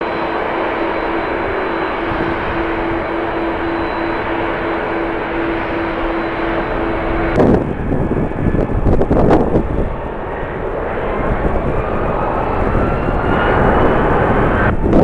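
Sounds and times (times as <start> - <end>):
faint rising whine: 0.0 - 15.0
jet engines running: 0.0 - 15.0
wind buffeting microphone: 0.0 - 15.0.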